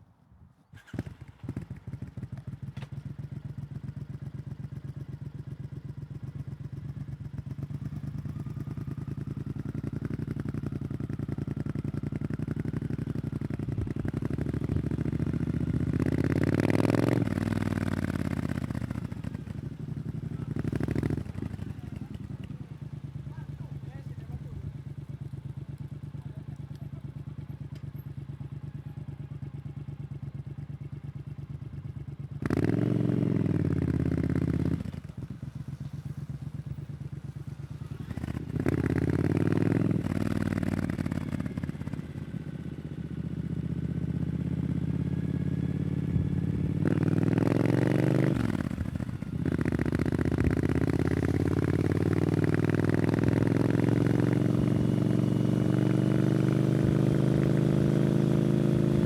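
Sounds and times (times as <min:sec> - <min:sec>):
motorcycle engine accelerating: 0:00.8 - 0:28.1, 0:31.9 - 0:59.0.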